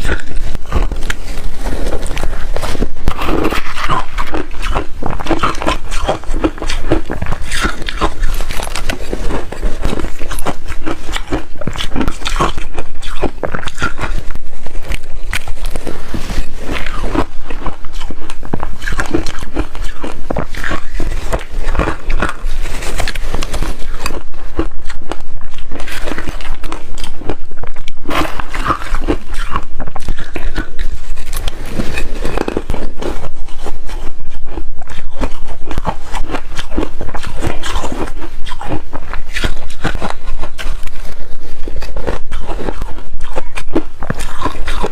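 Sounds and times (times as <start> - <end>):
chewing hard ice crunches: 0.0 - 44.9.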